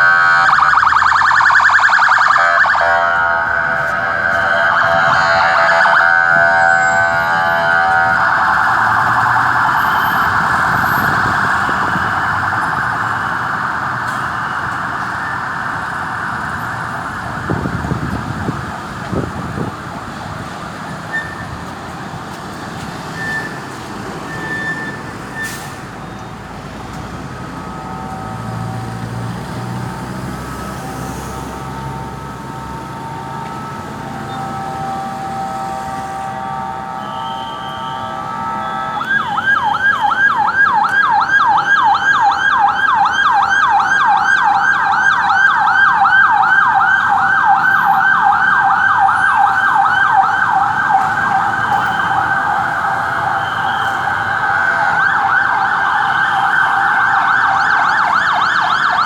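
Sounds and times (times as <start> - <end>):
ambulance sirens: 0.0 - 59.0.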